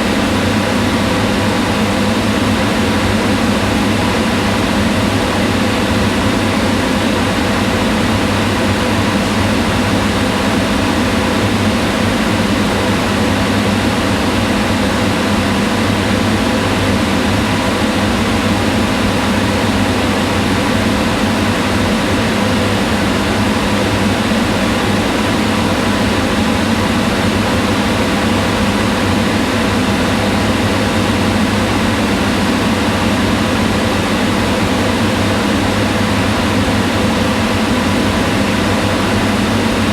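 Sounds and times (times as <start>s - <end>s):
range hood fan running: 0.0s - 39.9s.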